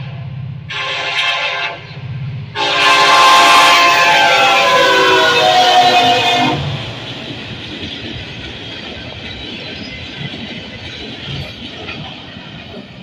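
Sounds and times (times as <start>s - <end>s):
freight train wheels clattering: 1.8s - 13.0s.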